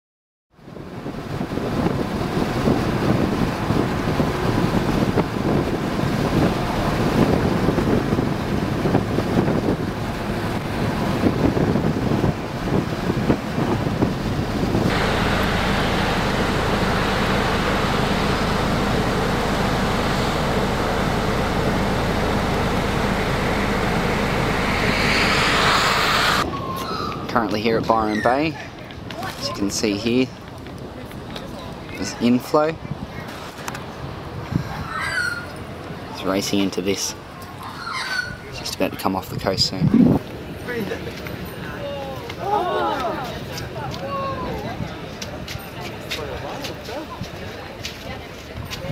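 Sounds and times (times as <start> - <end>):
strong wind buffeting microphone: 0.6 - 36.2, 38.4 - 48.9.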